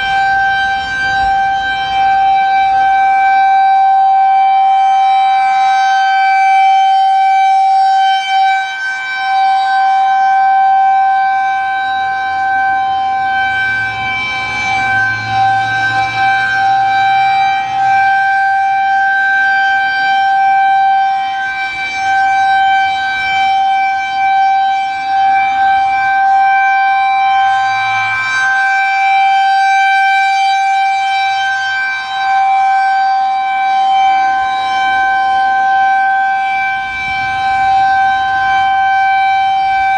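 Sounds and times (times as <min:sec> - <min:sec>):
warning siren steady wail: 0:00.0 - 0:39.9.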